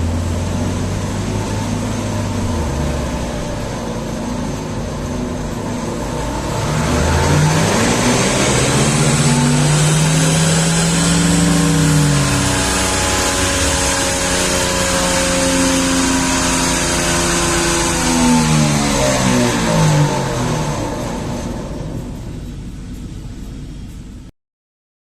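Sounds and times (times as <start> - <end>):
diesel engine revving under load: 0.0 - 24.0.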